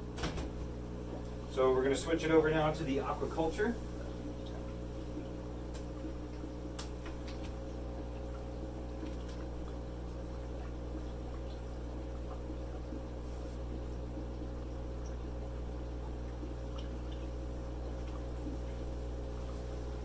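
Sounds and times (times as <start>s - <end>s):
faint bubbling: 0.7s - 20.0s.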